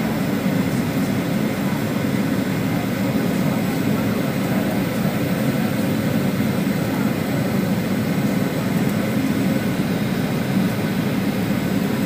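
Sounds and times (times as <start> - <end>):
airplane engines droning: 0.0 - 12.0.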